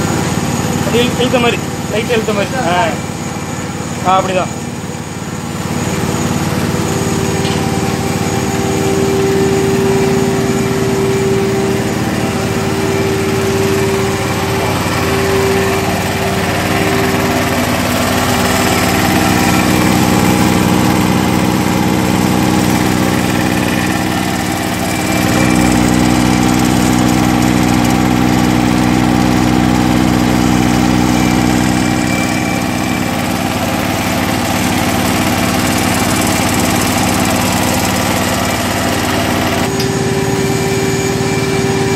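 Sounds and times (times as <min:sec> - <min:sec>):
small petrol engine running: 0:00.0 - 0:41.9.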